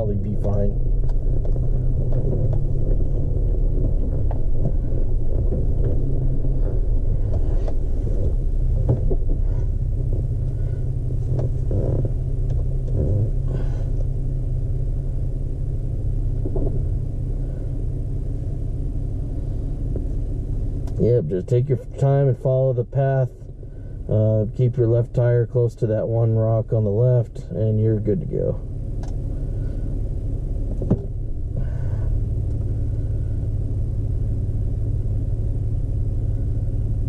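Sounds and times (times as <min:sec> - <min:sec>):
pickup engine rumbling: 0:00.0 - 0:37.0.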